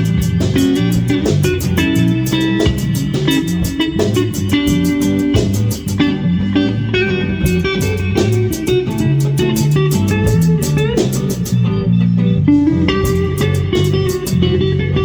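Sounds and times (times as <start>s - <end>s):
rock band jamming: 0.0s - 14.6s.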